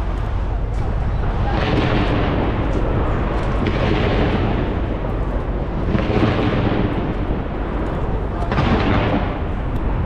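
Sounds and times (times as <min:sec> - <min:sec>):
fireworks bursts and cracking: 0:00.7 - 0:10.0.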